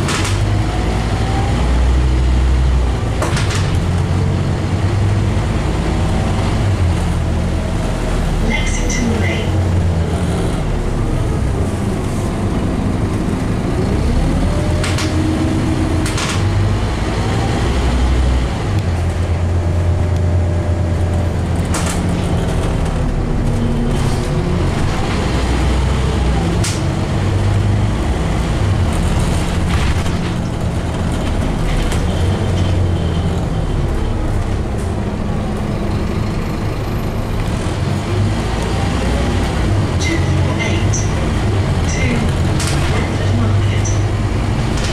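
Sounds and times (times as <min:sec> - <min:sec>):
bus engine and gearbox whine: 0:00.0 - 0:44.9.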